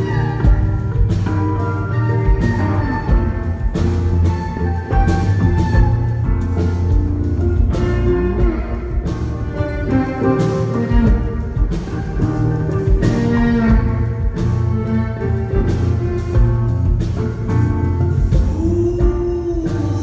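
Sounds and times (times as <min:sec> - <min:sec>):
bowed violin melody: 0:00.0 - 0:20.0
electric guitar accompaniment: 0:00.0 - 0:20.0.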